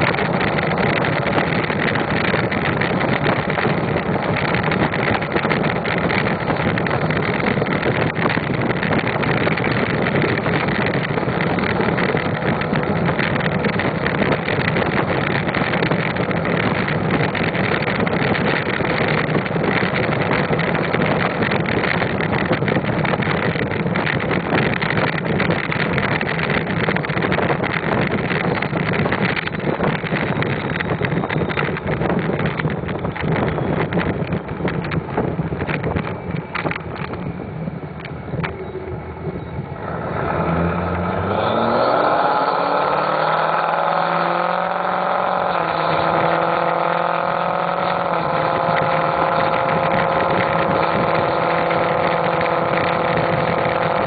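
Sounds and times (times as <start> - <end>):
diesel engine running: 0.0 - 54.0
road and wind noise: 0.0 - 54.0.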